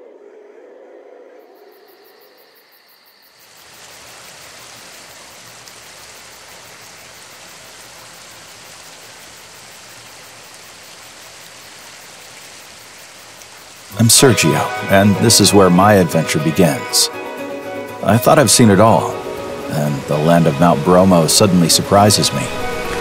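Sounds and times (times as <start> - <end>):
running water rushing: 3.4 - 23.0.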